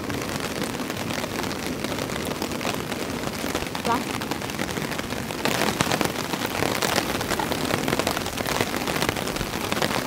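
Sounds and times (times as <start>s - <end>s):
heavy rain pattering on a tarp: 0.0s - 10.0s.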